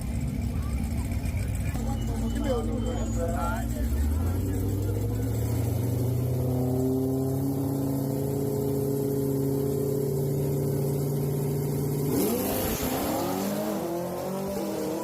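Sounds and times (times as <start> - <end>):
drag racing car engines revving: 0.0 - 15.0.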